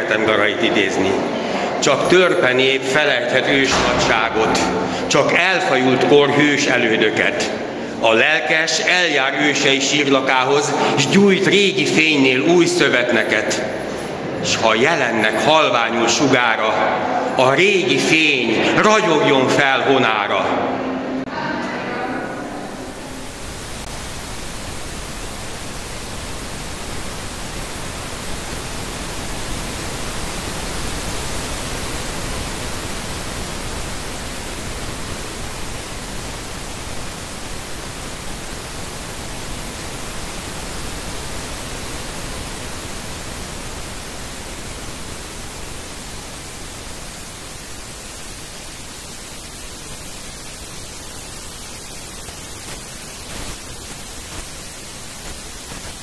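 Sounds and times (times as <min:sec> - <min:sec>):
pink noise test signal: 0:00.0 - 0:56.0.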